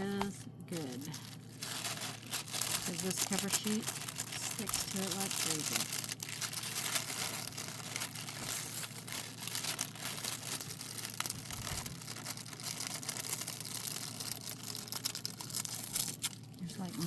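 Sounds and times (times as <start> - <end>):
plastic sheet crinkling: 0.1 - 17.0.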